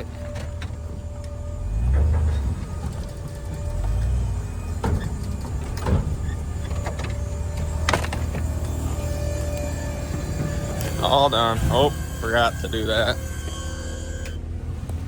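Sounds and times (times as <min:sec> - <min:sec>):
hydraulic pump humming: 0:00.0 - 0:15.0
truck engine running: 0:00.0 - 0:15.0.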